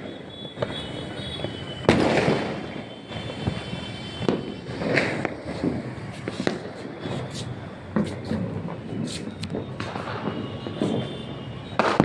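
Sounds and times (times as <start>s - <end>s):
fireworks cracking: 0.0s - 12.0s
fireworks bang: 0.5s - 12.0s.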